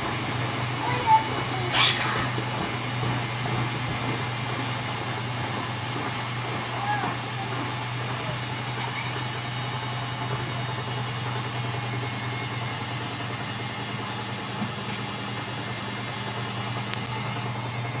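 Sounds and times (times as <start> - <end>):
washing machine running: 0.0 - 18.0.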